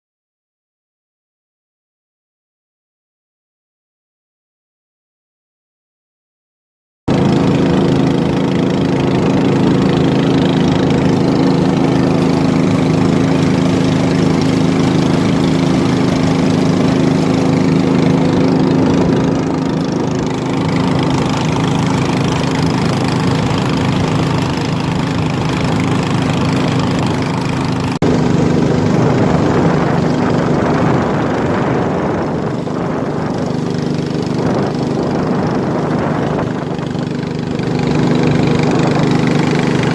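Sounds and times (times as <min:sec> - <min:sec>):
small boat engine running: 0:07.1 - 0:39.9.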